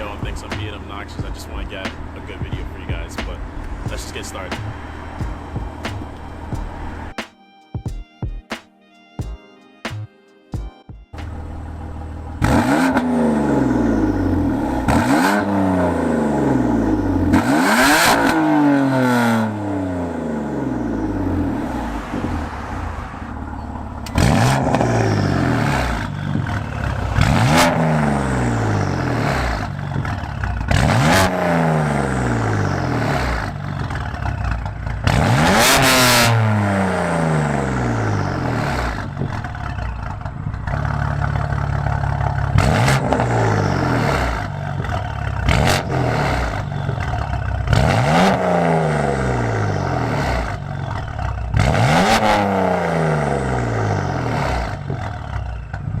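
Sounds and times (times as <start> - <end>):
exhaust cracks: 0.0 - 7.1, 11.2 - 56.0
car engine revving: 0.0 - 7.2, 11.2 - 56.0.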